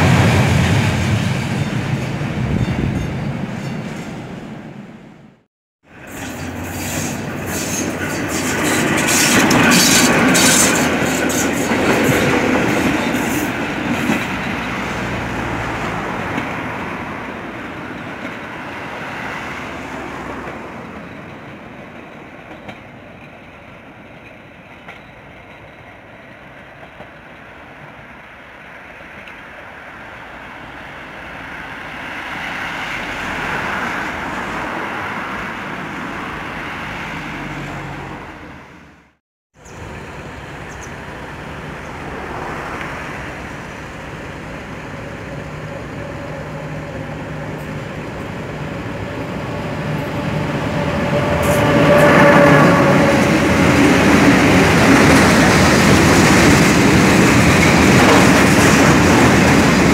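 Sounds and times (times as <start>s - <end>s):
diesel locomotive approaching: 0.0s - 59.9s
freight train running past: 0.0s - 59.9s
held locomotive tone: 0.0s - 59.9s.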